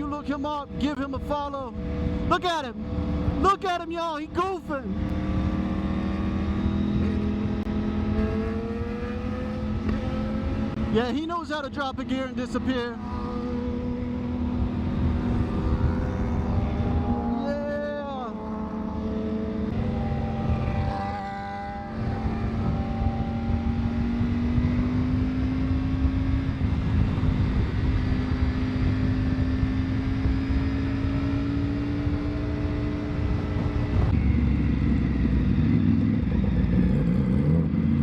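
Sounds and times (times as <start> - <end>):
motorcycle engine: 0.0 - 38.0
rushing wind: 0.0 - 38.0.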